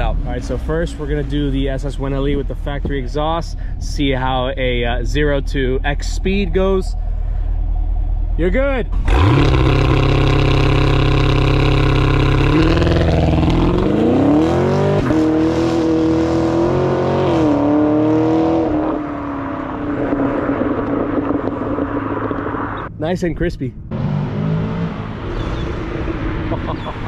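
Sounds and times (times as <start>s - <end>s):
car engine accelerating: 0.0s - 23.0s, 23.9s - 27.0s.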